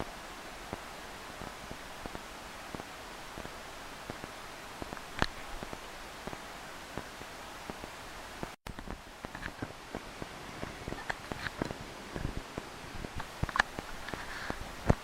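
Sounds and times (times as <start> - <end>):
rain hissing: 0.0 - 15.0
raindrops ticking on microphone: 0.0 - 15.0.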